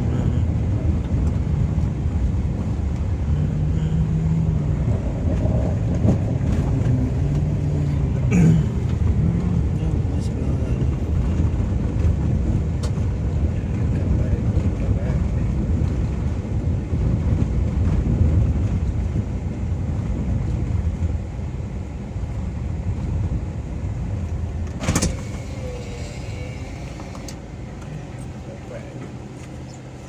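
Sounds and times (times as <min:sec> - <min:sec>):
motor vehicle rumble: 0:00.0 - 0:30.0.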